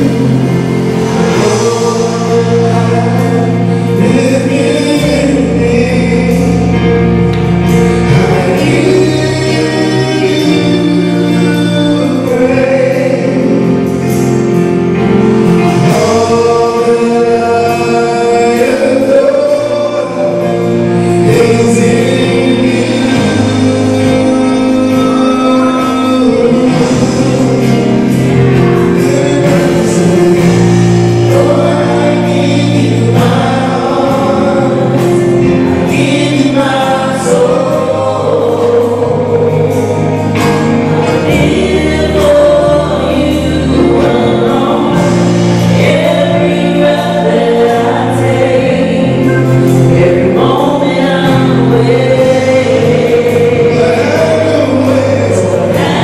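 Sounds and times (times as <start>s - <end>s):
gospel choir singing: 0.0s - 56.0s
instrumental accompaniment: 0.0s - 56.0s.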